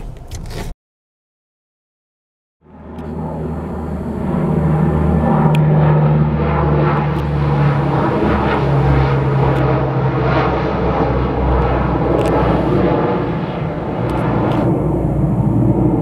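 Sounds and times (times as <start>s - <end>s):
aeroplane engine drone: 2.6s - 16.0s.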